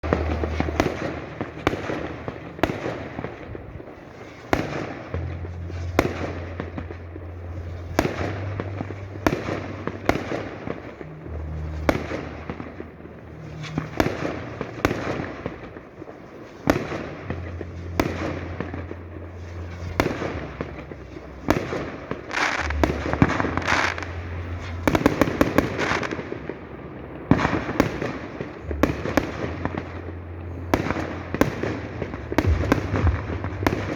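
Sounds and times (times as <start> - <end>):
firework shells bursting: 0.0 - 30.1
fireworks crackling: 0.0 - 33.9
rapid firework bangs: 0.0 - 33.9.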